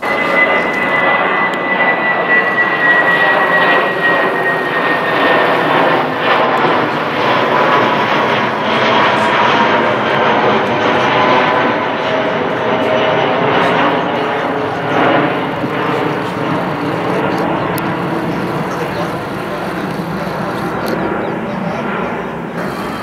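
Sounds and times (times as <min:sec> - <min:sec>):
high whine: 0:00.0 - 0:23.0
jet engines rumbling: 0:00.0 - 0:23.0
lower whine: 0:00.0 - 0:23.0.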